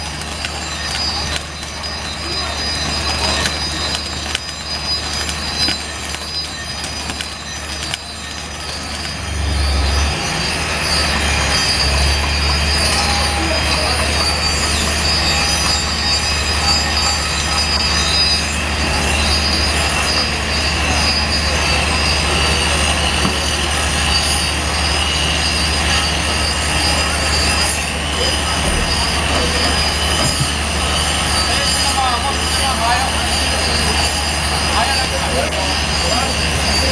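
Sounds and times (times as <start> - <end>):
welding machine low hum: 0.0 - 35.2
high-pitched whine: 0.0 - 36.9.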